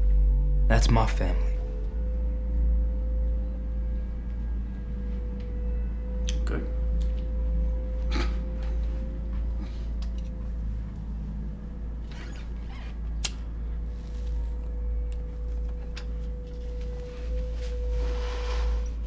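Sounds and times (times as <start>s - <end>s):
low steady drone: 0.0s - 19.0s.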